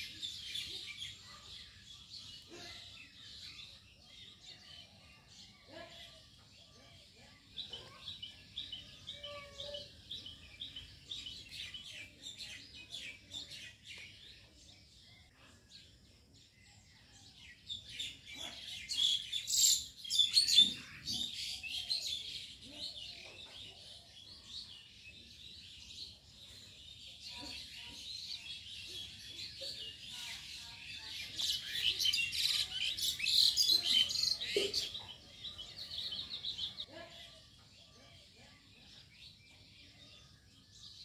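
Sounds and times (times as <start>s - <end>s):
small songbirds chirping: 0.0s - 41.0s.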